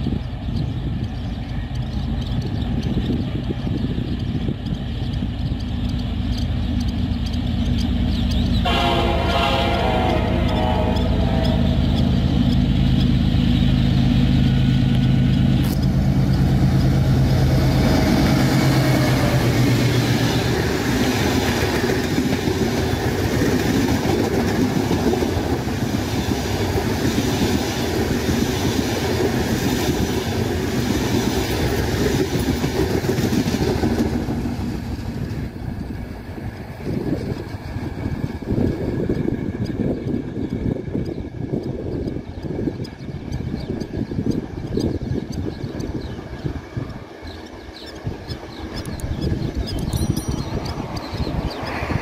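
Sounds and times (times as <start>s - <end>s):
locomotive engine drone: 0.0s - 52.0s
train wheels clattering on rails: 0.0s - 52.0s.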